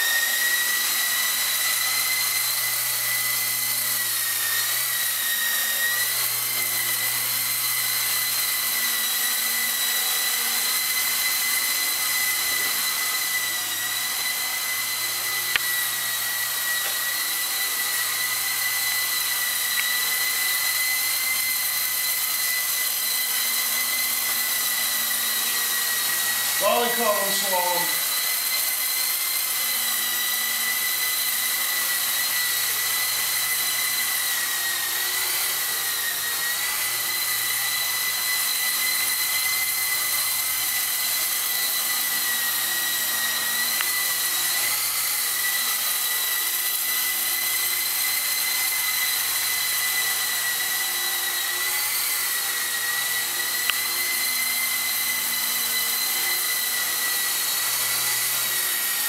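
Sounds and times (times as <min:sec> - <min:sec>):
rc helicopter rotor whine: 0:00.0 - 0:59.0.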